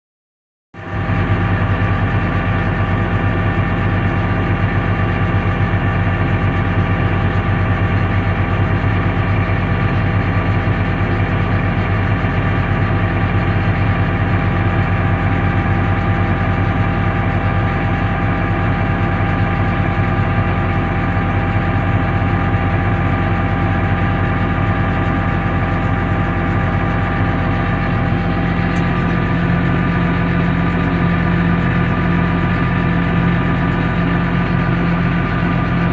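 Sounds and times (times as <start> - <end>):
tractor diesel engine under load: 0.8 - 35.9.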